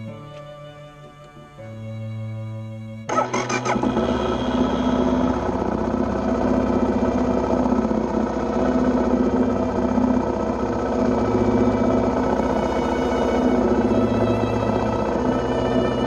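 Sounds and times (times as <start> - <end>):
motorcycle engine running: 3.1 - 16.0.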